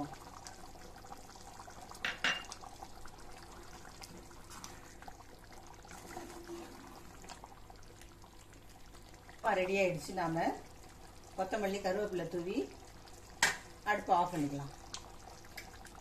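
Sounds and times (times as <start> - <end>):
liquid pouring into a pot: 0.0 - 16.0.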